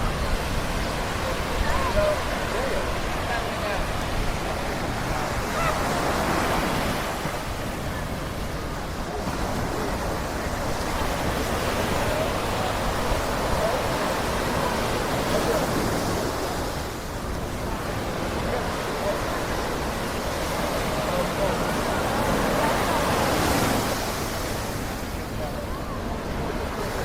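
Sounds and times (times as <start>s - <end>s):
faint voices of people: 0.0s - 27.0s
waves washing onto sandy beach: 0.0s - 27.0s.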